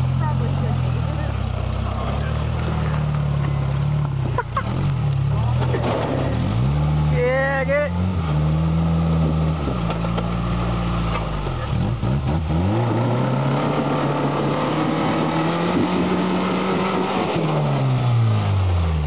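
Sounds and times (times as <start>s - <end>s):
engine revving under load: 0.0s - 19.0s.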